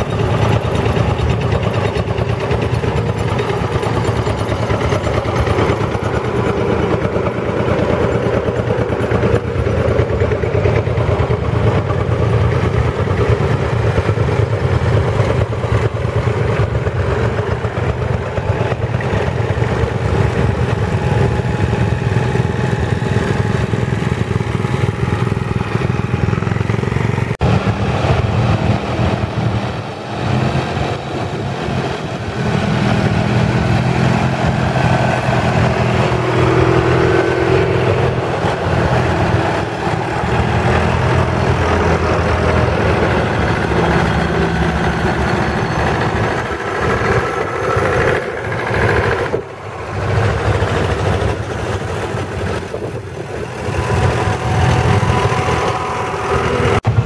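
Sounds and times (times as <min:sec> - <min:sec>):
tractor engines driving past: 0:00.0 - 0:57.0.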